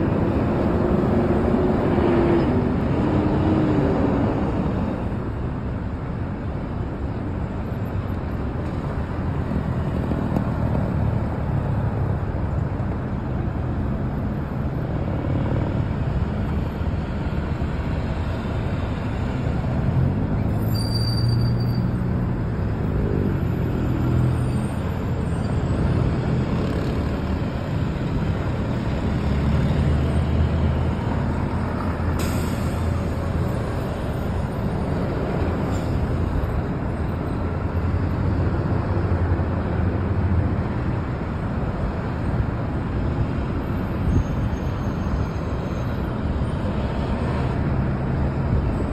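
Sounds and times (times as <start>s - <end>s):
traffic driving past: 0.0s - 48.9s.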